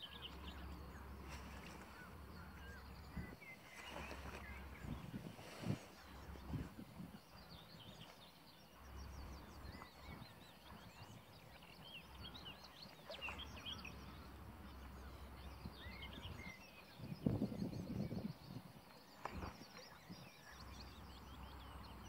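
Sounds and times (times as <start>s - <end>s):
small birds chirping: 0.0s - 22.0s
wind rumble on microphone: 0.4s - 11.4s, 14.8s - 21.8s.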